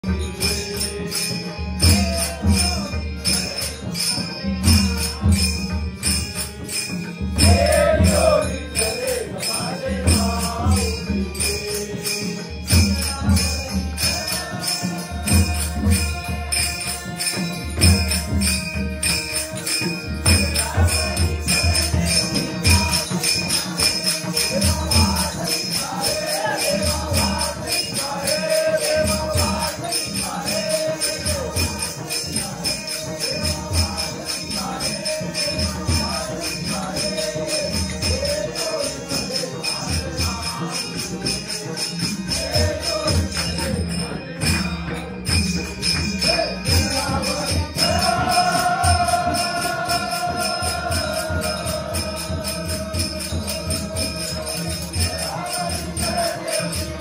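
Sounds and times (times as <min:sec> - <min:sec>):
devotional singing voices: 0:00.0 - 0:57.0
fast percussion strikes: 0:00.0 - 0:57.0.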